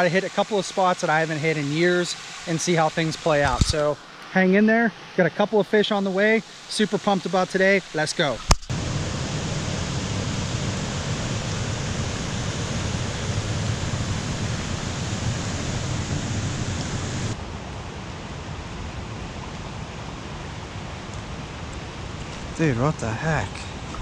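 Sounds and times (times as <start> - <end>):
water rushing at dam outflow: 0.0 - 24.0.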